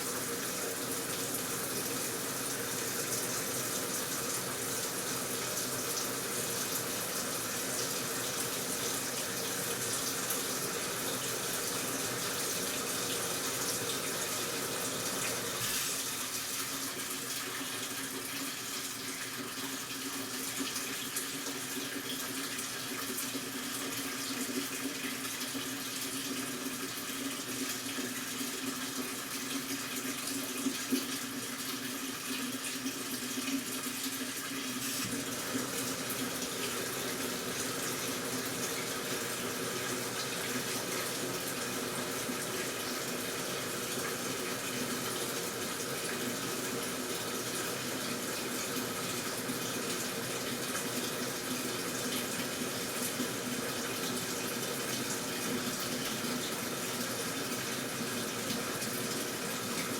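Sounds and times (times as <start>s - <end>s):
water pouring into washing machine: 0.0s - 59.9s.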